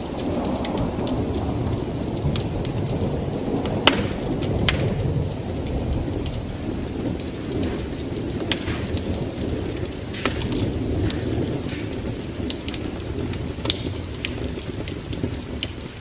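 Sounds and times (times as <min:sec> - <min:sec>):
fire crackles and pops: 0:00.0 - 0:16.0
low rush of flame: 0:00.1 - 0:13.6.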